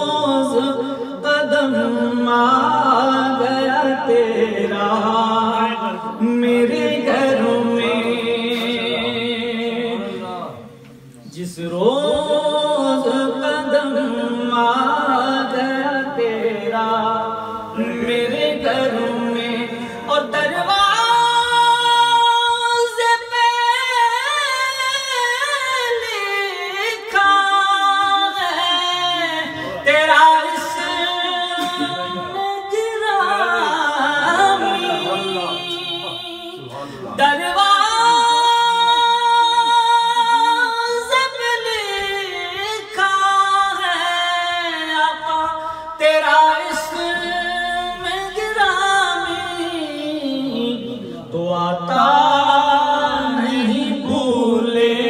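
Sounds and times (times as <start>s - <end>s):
man singing into a microphone: 0.0s - 55.0s.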